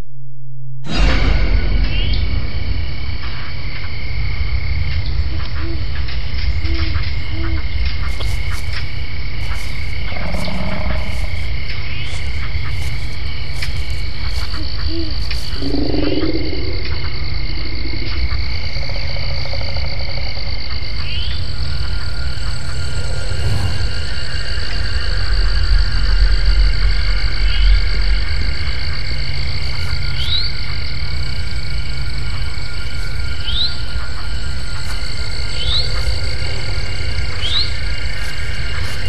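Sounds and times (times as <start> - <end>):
deep low rumble: 0.0 - 39.0
high-pitched insect chorus: 0.9 - 39.0
frog-like croaking: 3.2 - 39.0.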